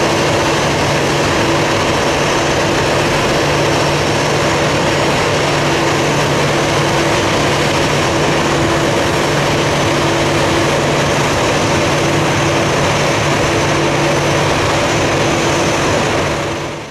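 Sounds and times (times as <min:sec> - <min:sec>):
jet engines idling: 0:00.0 - 0:16.9.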